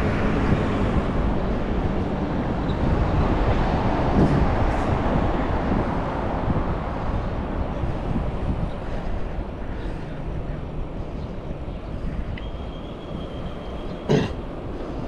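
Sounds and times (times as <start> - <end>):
low traffic rumble: 0.0 - 15.0
wind buffeting microphone: 0.0 - 15.0.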